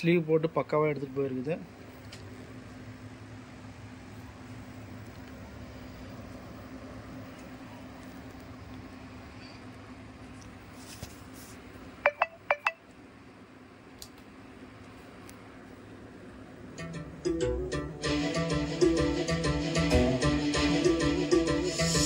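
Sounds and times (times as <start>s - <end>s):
low hum with faint hiss: 0.0s - 18.0s.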